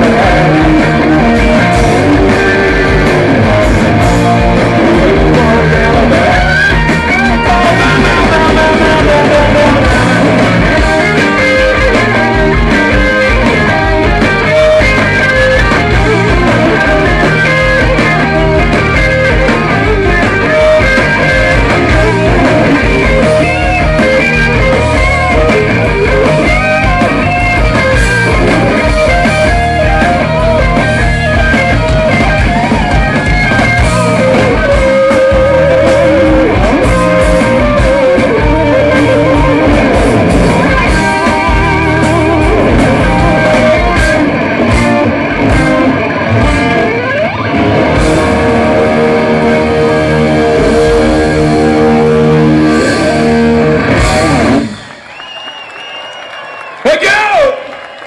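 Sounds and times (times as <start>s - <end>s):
drums: 0.0s - 58.0s
electric guitar: 0.0s - 58.0s
live rock band playing: 0.0s - 58.0s.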